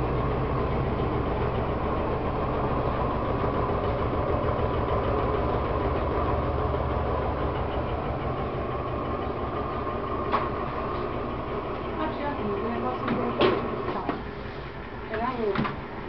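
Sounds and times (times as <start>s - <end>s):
washing machine rumbling and rattling: 0.0s - 16.0s.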